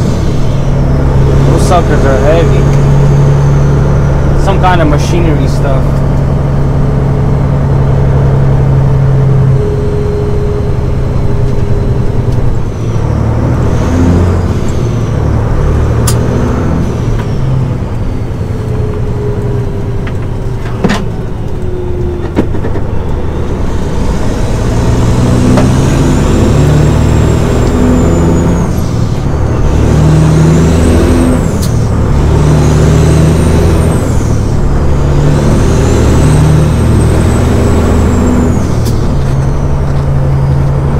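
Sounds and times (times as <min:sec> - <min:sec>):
truck diesel engine revving: 0:00.0 - 0:40.9.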